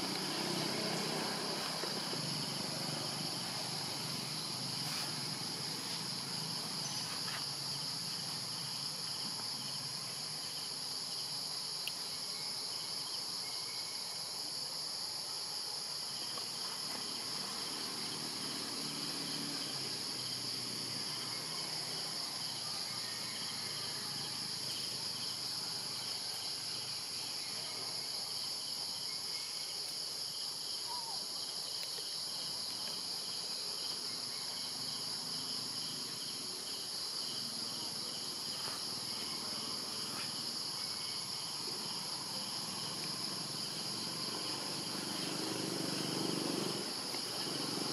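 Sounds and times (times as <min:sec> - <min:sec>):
pulsing insect call: 0:00.0 - 0:14.8, 0:15.9 - 0:47.9
high-pitched insect chorus: 0:00.0 - 0:47.9.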